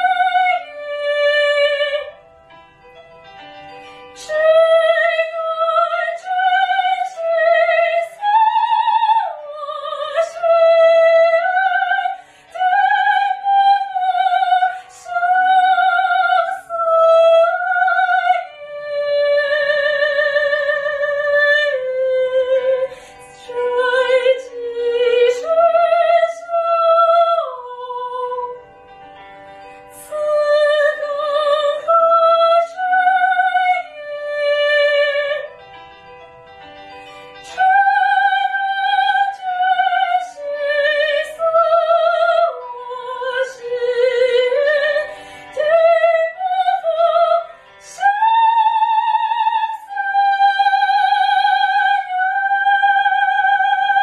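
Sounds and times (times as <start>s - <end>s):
woman singing operatically: 0.0s - 2.1s, 4.2s - 28.6s, 30.0s - 35.5s, 37.5s - 54.0s.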